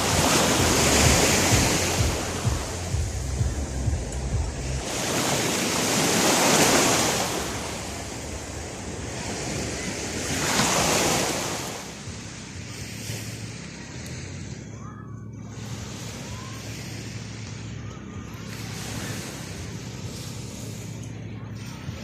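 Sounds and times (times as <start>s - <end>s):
ocean surf washing on beach: 0.0s - 14.6s, 15.4s - 22.0s.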